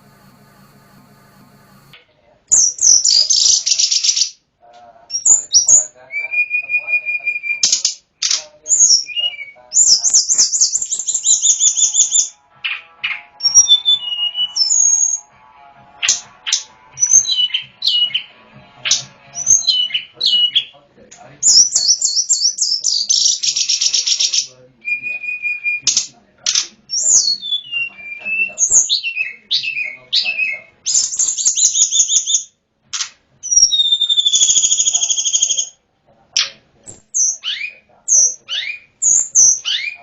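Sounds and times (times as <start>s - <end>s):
songbird singing: 2.5s - 15.4s, 16.0s - 32.5s, 33.4s - 35.8s, 36.4s - 40.0s.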